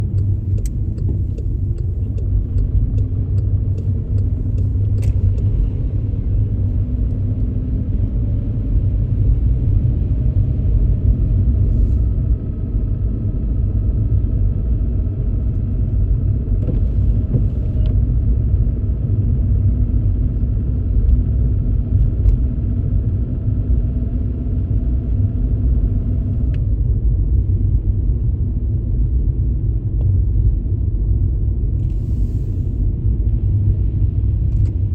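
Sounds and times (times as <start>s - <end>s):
car tyres and engine on wet road: 0.0s - 34.9s.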